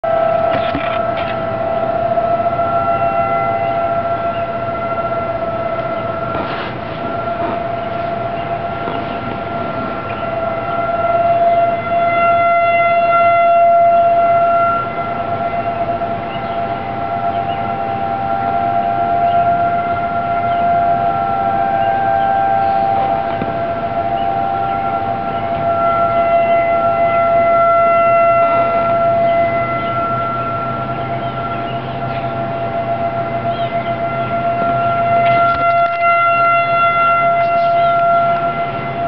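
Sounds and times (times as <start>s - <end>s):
higher siren tone: 0.0s - 39.0s
warning siren steady tone: 0.0s - 39.0s.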